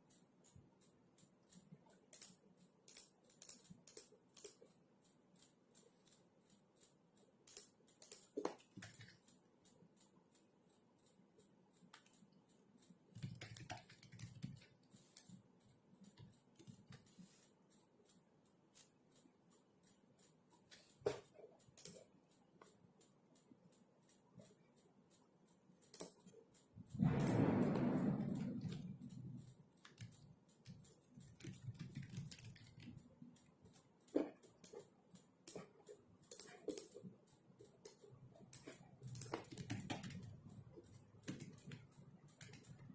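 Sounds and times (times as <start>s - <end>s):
computer keyboard typing: 0.0s - 42.9s.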